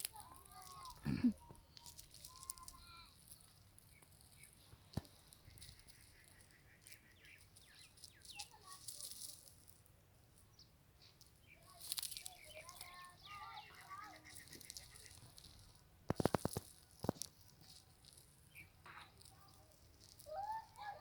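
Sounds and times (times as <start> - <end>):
light rustling: 0.0 - 9.8, 11.0 - 21.0
faint high chirping calls: 0.1 - 9.5, 10.4 - 15.8, 17.6 - 21.0.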